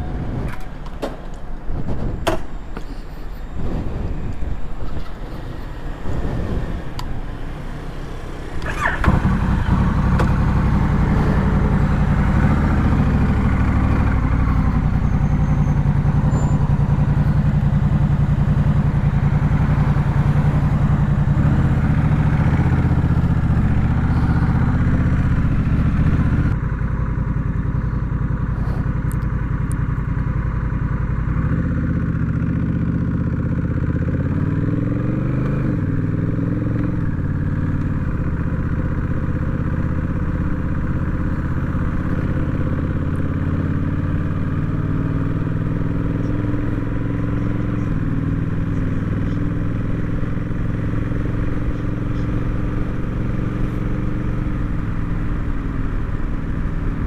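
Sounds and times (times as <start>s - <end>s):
motorcycle engine starting: 0.0s - 57.0s
motorcycle engine idling: 4.6s - 57.0s.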